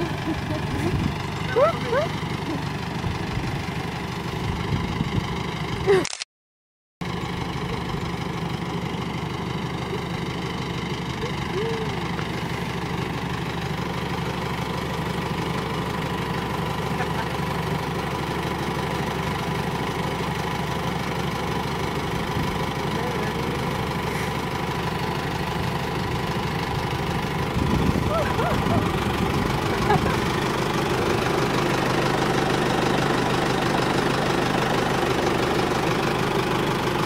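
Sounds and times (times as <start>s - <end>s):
car engine idling: 0.0s - 5.9s, 7.0s - 37.0s.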